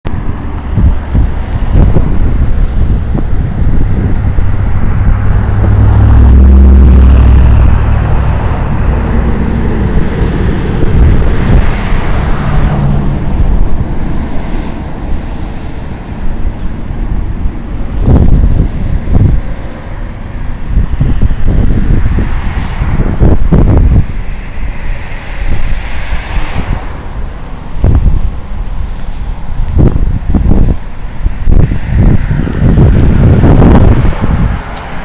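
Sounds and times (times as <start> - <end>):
low hum: 0.0 - 35.0
wind buffeting microphone: 0.0 - 35.0.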